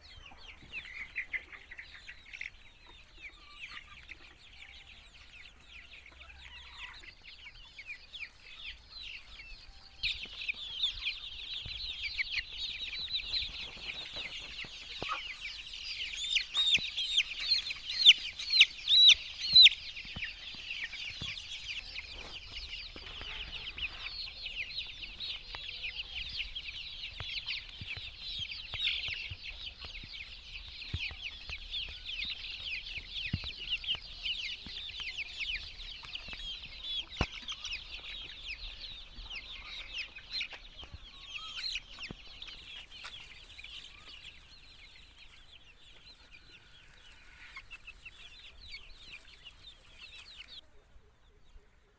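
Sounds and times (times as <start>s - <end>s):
poultry chirping calls: 0.0s - 51.9s.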